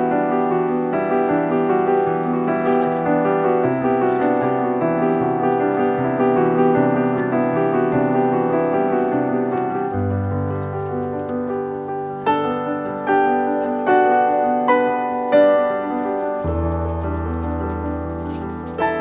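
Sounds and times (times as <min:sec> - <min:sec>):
piano playing held chords: 0:00.0 - 0:19.0.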